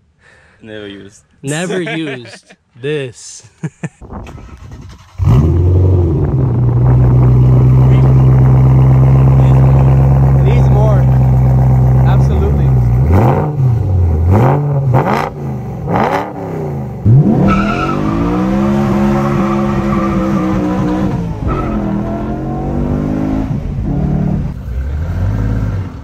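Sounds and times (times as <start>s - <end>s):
car engine revving: 4.4s - 26.0s
car accelerating hard: 4.6s - 26.0s.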